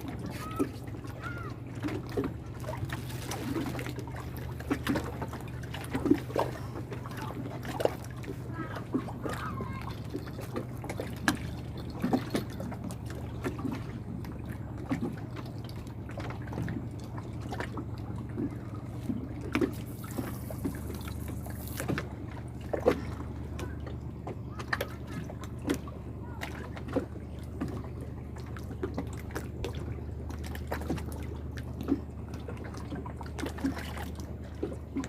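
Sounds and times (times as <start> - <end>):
low hum: 0.0 - 35.0
water trickling and splashing: 0.0 - 35.0.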